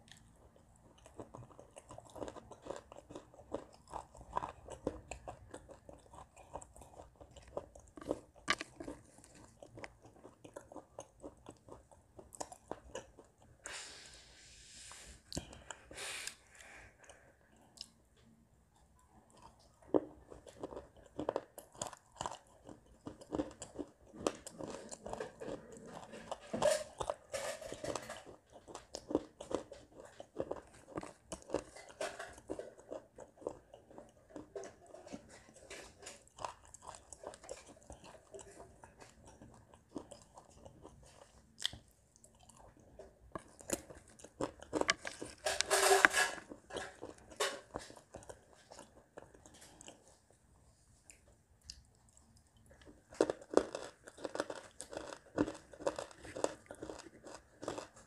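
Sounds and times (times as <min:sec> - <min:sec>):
crunching and chewing clay: 0:00.0 - 0:13.8, 0:15.2 - 0:58.0.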